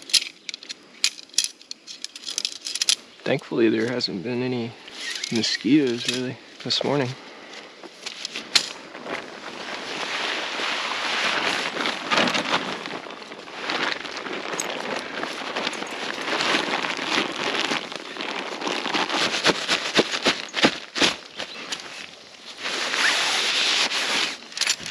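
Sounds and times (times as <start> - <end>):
tent fabric rustling: 3.6 - 24.9.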